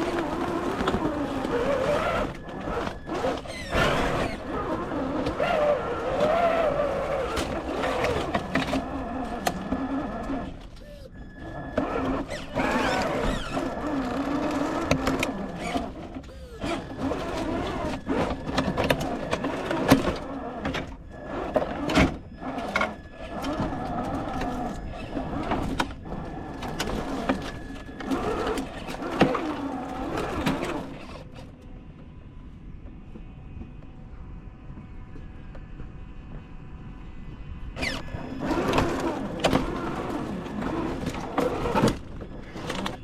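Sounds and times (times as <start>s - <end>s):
electric motor and gearbox whining: 0.0s - 32.2s, 37.6s - 43.0s.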